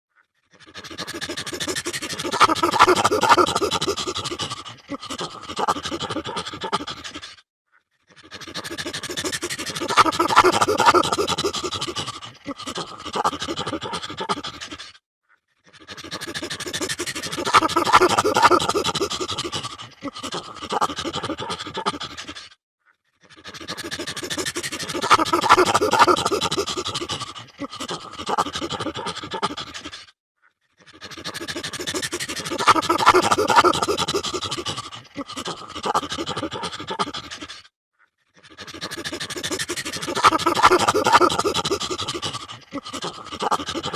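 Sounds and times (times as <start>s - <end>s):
chimpanzee panting calls: 0.4s - 7.4s, 8.1s - 15.0s, 15.6s - 22.6s, 23.2s - 30.1s, 30.8s - 37.7s, 38.4s - 43.9s.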